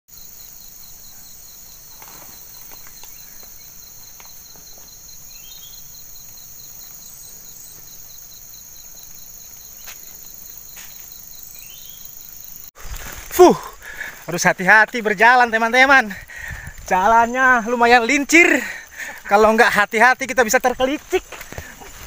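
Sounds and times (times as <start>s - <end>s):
high-pitched insect hiss: 0.1s - 22.0s
insects pulsing trill: 0.1s - 22.0s.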